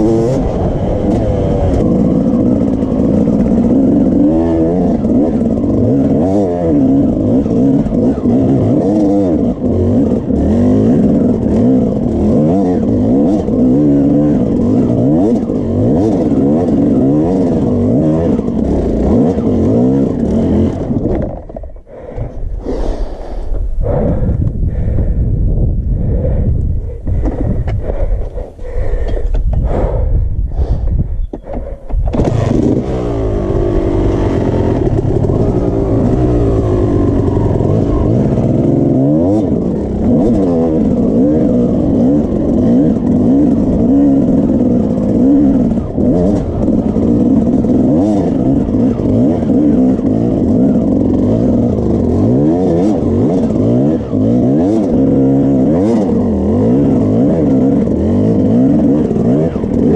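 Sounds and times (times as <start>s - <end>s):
dirt bike engine revving: 0.0s - 24.9s, 30.7s - 59.9s.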